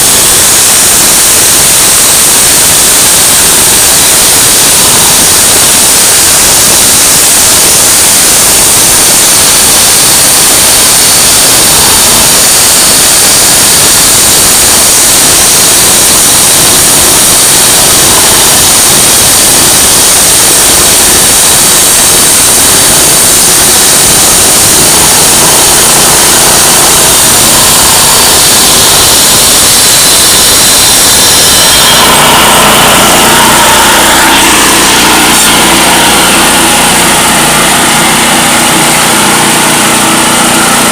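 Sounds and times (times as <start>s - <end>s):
engine running: 0.0s - 40.9s
loud hiss: 0.0s - 40.9s.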